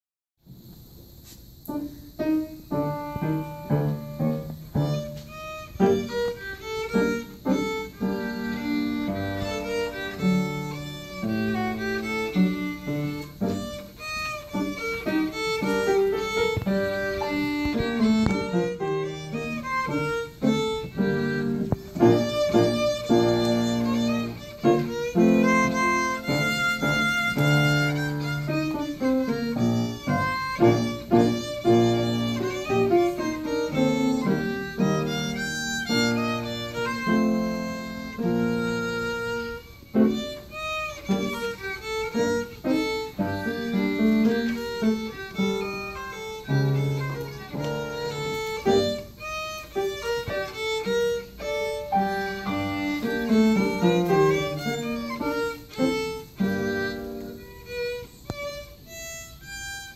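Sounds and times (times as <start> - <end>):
grand piano accompaniment: 1.6 - 58.6
violin melody: 1.6 - 59.9.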